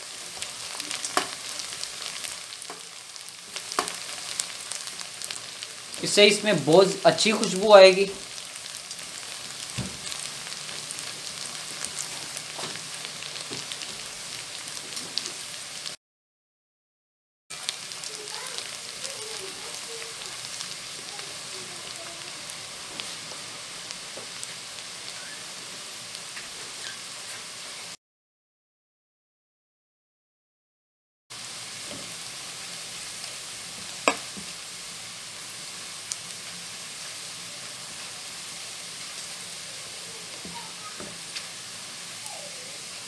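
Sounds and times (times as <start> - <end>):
onions sizzling in hot oil: 0.0 - 16.0, 17.5 - 28.0, 31.3 - 43.0.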